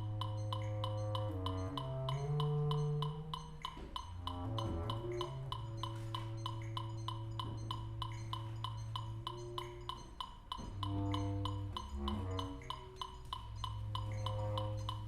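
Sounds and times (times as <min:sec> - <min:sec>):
chamber music with bass clarinet: 0:00.0 - 0:15.0
steady ticking pulse: 0:00.0 - 0:15.0.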